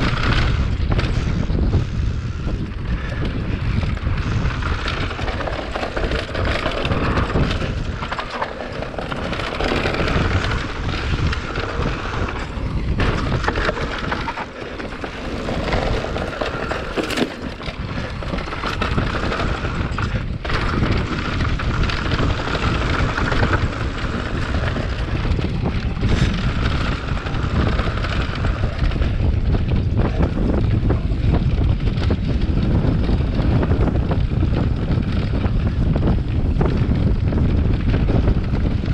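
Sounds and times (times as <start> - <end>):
bike rattling and knocking: 0.0 - 38.9
bike tyres rolling over dirt: 0.0 - 38.9
wind rushing over microphone: 0.0 - 38.9.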